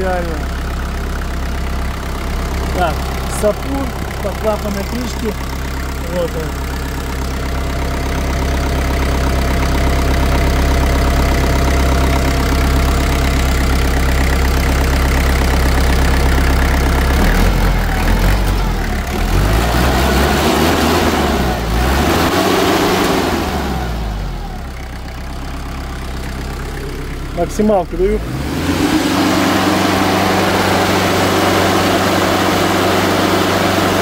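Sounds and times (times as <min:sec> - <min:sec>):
tractor diesel engine idling: 0:00.0 - 0:34.0
engine revving: 0:01.7 - 0:24.9, 0:25.7 - 0:34.0.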